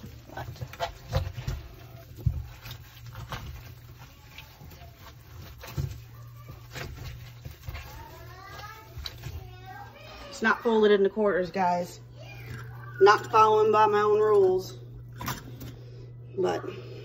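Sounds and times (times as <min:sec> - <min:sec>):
wet cloth scrubbing plastic: 0:00.0 - 0:16.6.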